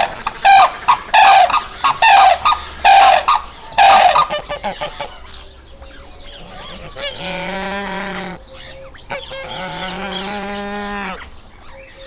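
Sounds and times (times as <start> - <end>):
peafowl long calls: 0.0 - 12.0.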